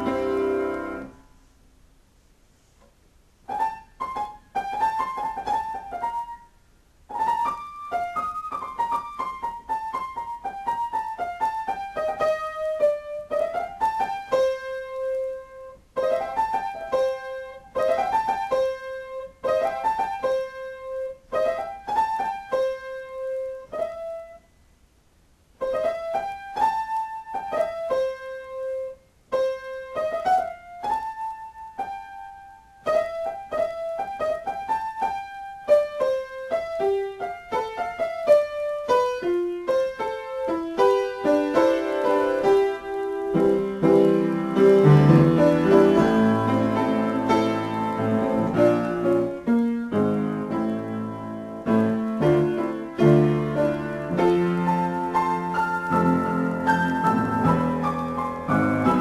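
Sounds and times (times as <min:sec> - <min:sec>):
solo piano melody: 0:00.0 - 0:02.0, 0:03.2 - 0:59.0.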